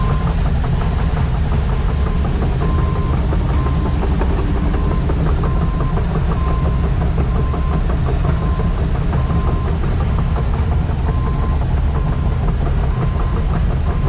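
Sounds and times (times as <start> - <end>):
truck diesel and road rumble: 0.0 - 14.0.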